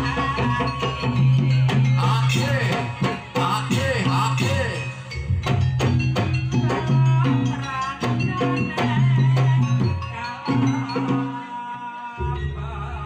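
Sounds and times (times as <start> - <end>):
fast drumming: 0.0 - 11.4.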